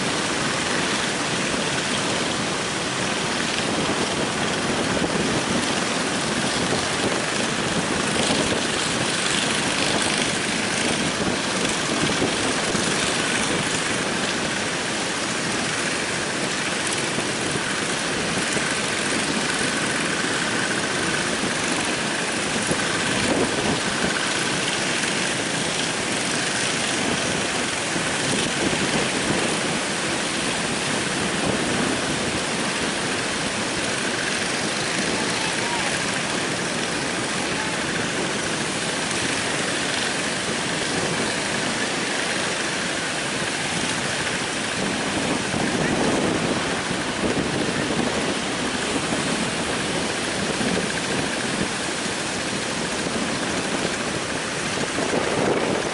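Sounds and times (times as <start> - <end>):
faint boat engine hum: 0.0 - 55.9
strong wind: 0.0 - 55.9
surf breaking on beach: 0.0 - 55.9.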